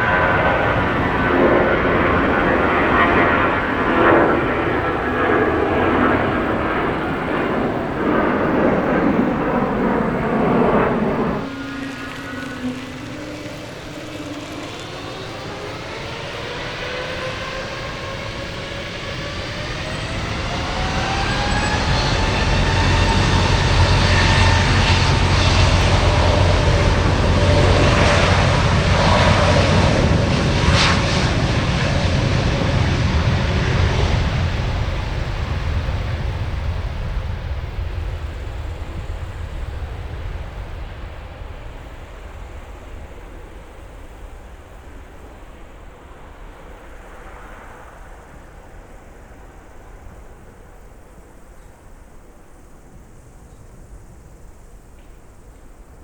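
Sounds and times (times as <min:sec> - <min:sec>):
jet engines roaring: 0:00.0 - 0:56.0
jet engines spooling up: 0:00.0 - 0:56.0.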